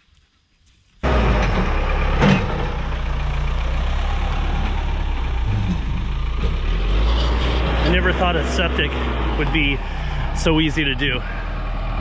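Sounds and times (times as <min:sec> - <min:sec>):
backhoe diesel engine running: 0:01.0 - 0:12.0.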